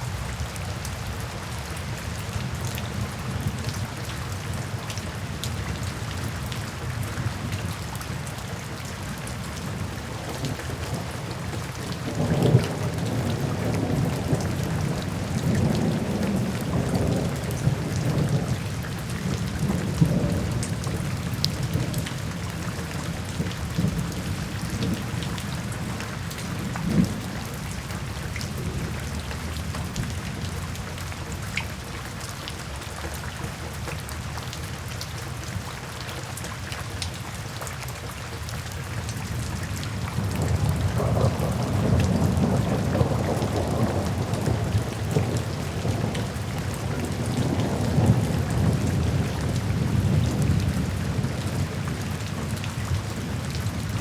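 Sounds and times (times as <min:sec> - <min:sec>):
steady rain falling: 0:00.0 - 0:54.0
low rumble of thunder: 0:00.1 - 0:31.8, 0:39.1 - 0:54.0
raindrops ticking: 0:05.4 - 0:54.0.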